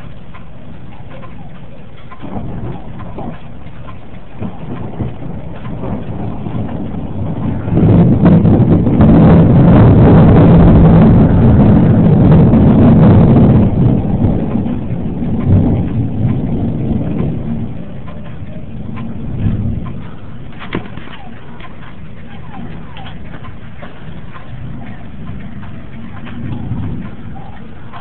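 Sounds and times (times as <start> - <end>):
rolling thunder: 0.0 - 28.0.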